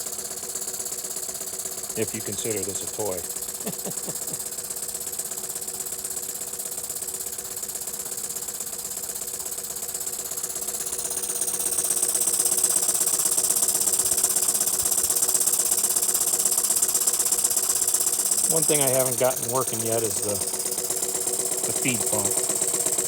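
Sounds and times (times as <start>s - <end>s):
toy steam engine chuffing: 0.0s - 23.0s.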